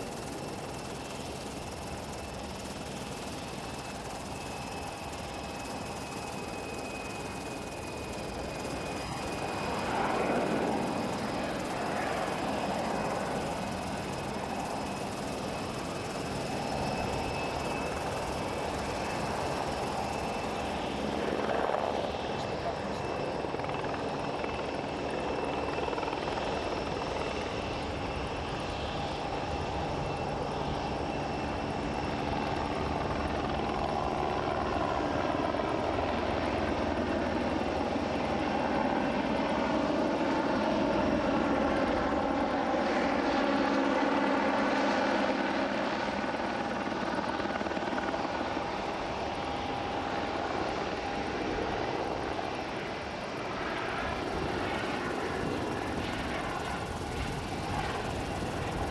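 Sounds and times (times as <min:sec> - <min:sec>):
jet engine whine: 0:00.0 - 0:58.9.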